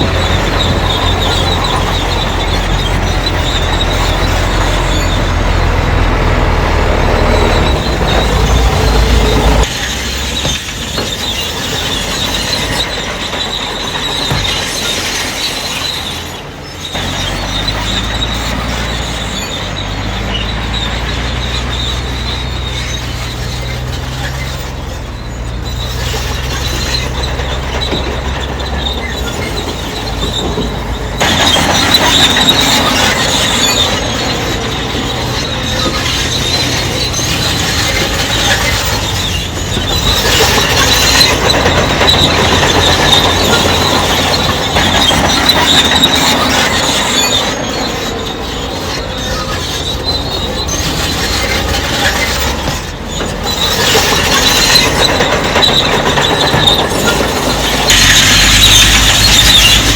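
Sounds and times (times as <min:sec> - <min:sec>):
diesel engine droning: 0:00.0 - 0:59.9
steel tracks squealing and clanking: 0:00.0 - 0:59.9.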